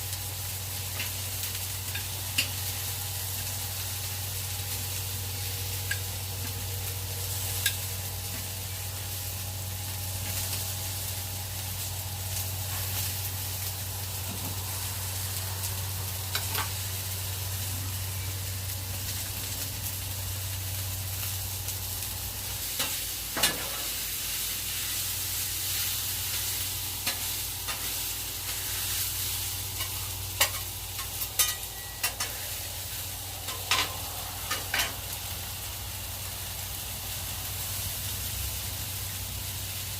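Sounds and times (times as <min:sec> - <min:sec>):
chicken sizzling in pan: 0:00.0 - 0:39.9.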